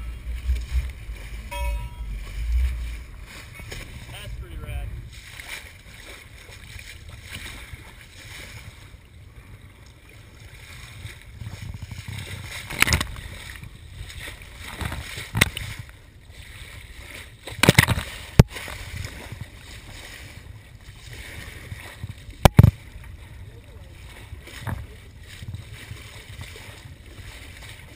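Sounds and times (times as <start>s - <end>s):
water rushing along a hull: 0.0s - 27.9s
wind on microphone: 0.0s - 27.9s.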